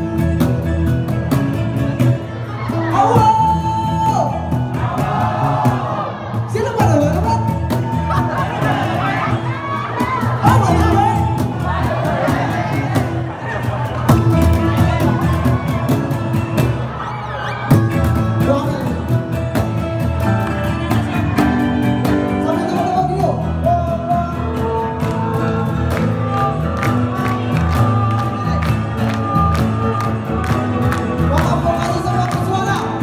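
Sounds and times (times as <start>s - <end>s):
acoustic guitar: 0.0s - 33.0s
bass guitar: 0.0s - 33.0s.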